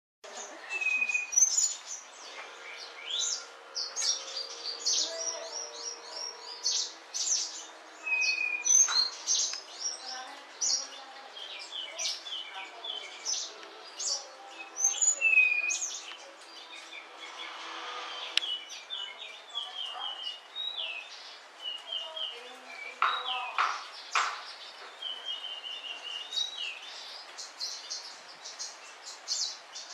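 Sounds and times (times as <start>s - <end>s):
songbirds chirping: 0.2s - 29.9s.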